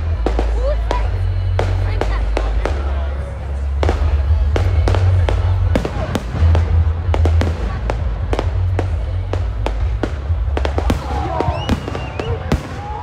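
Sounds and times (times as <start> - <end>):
deep rumble: 0.0 - 13.0
fireworks bangs and crackles: 0.0 - 13.0.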